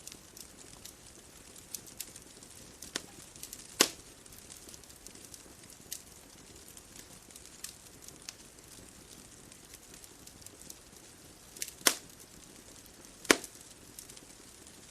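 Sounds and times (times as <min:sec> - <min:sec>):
faint steady hiss: 0:00.0 - 0:14.9
loud snap of fire: 0:00.0 - 0:14.9
wood fire crackling: 0:00.0 - 0:14.9.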